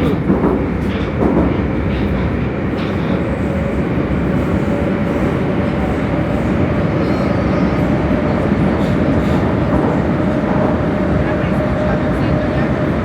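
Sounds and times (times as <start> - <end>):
metro train rumbling in tunnel: 0.0 - 13.0.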